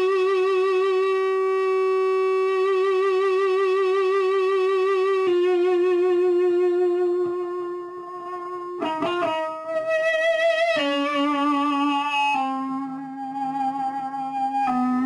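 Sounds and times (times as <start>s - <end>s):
electric guitar notes with vibrato: 0.0s - 15.0s.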